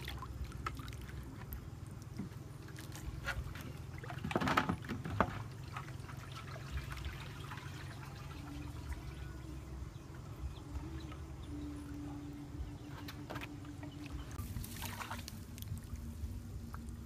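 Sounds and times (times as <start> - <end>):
water lapping and trickling: 0.0 - 17.0
water splashing and sloshing: 0.0 - 17.0.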